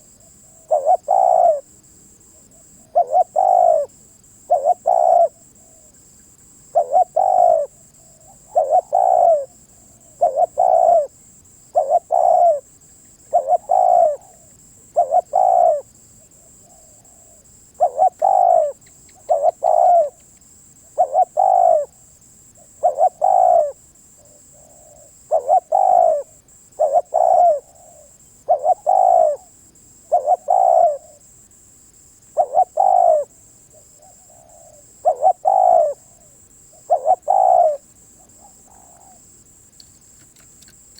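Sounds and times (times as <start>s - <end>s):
dove cooing: 0.0s - 1.7s, 2.3s - 5.9s, 6.7s - 20.2s, 20.9s - 29.5s, 30.1s - 31.3s, 32.4s - 39.3s.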